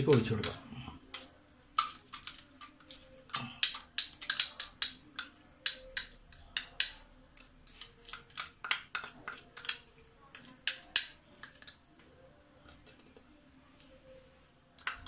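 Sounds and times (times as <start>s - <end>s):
metal spoon clinking on cookware: 0.0s - 11.9s, 14.8s - 15.0s.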